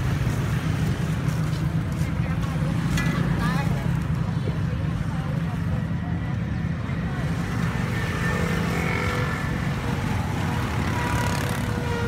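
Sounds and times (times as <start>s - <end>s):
motorbike and street traffic rumble: 0.0s - 12.0s.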